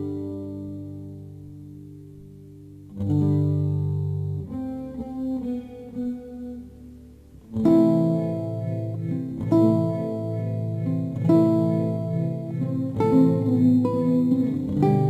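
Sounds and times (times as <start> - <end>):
guitar chords and picked notes: 0.0 - 15.0.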